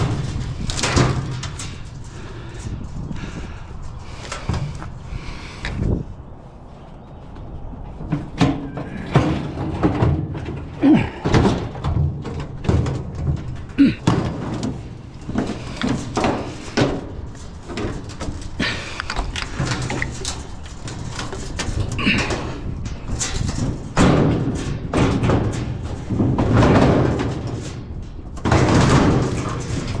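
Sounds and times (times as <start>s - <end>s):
heavy scrap knocking and clanking: 0.0s - 6.0s, 7.9s - 30.0s.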